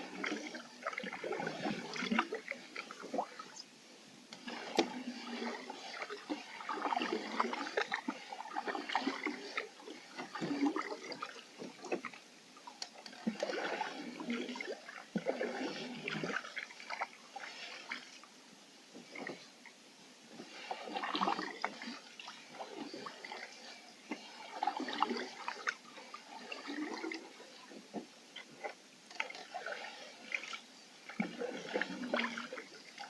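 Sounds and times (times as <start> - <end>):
water splashes and drips: 0.0 - 3.7, 4.3 - 18.3, 20.4 - 33.0
canoe paddle pulling through water: 0.0 - 33.0.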